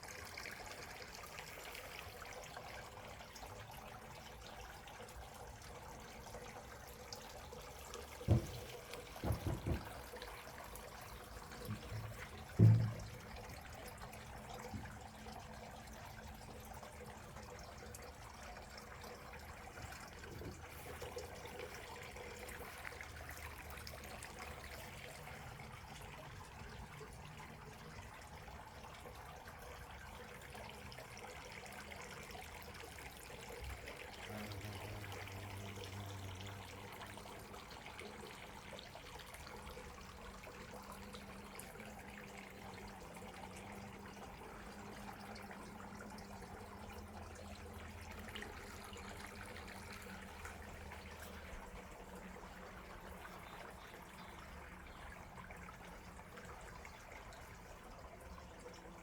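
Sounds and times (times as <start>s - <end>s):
water trickling and pouring: 0.0s - 59.0s.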